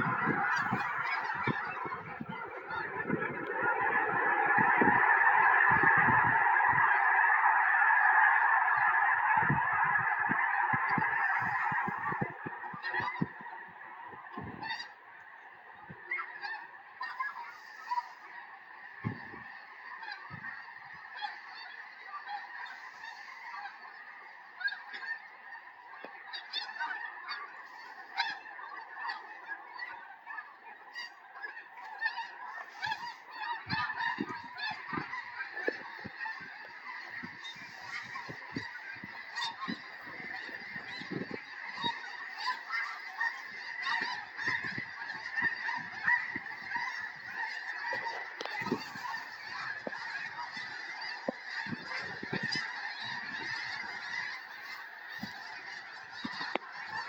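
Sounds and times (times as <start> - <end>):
geese honking: 0.0 - 57.0.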